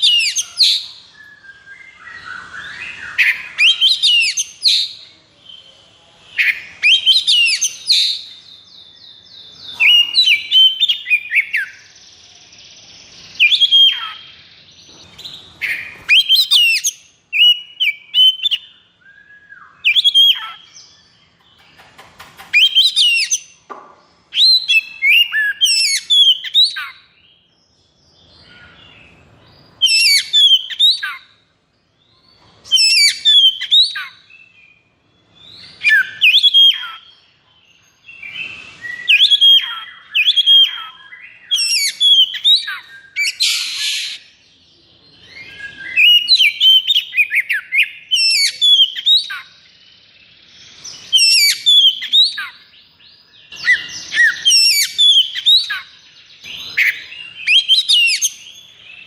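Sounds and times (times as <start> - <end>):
bird singing whistled notes: 0.0 - 21.4, 22.4 - 23.7, 24.3 - 31.4, 32.0 - 59.0.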